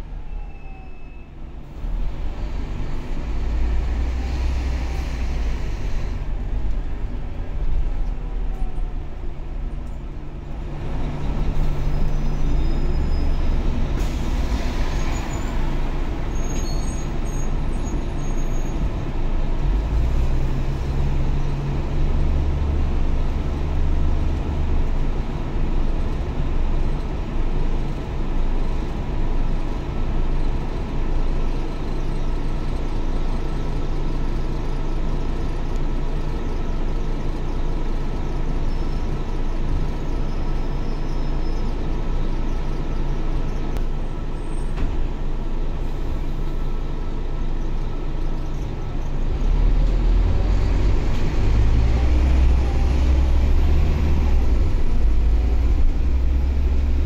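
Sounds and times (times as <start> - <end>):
bus engine and road noise: 0.0 - 57.0.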